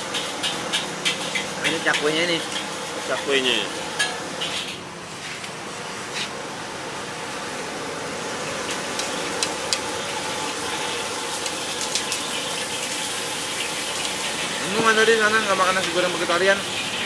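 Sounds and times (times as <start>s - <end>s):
continuous hiss and hum: 0.0s - 17.0s.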